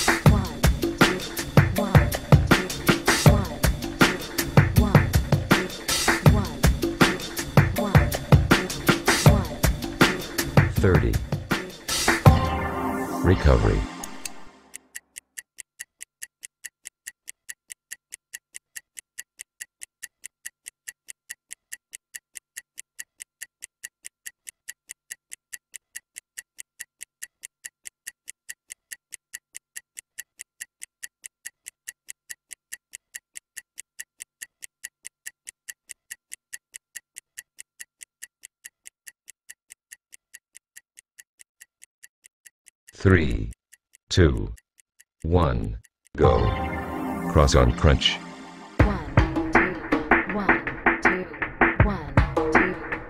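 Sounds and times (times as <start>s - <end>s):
stopwatch ticking: 0.0s - 12.3s, 14.0s - 46.4s.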